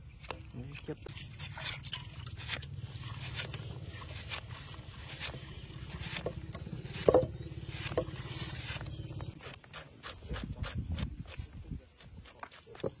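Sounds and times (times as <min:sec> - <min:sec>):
knife slicing limes: 0:01.1 - 0:13.0.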